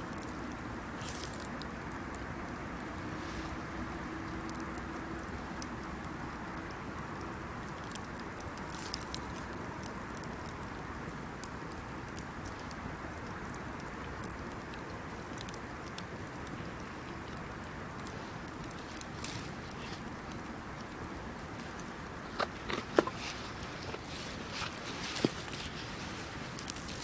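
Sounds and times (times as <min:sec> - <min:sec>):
bonfire hissing: 0:00.0 - 0:27.0
fire crackles and pops: 0:00.0 - 0:27.0.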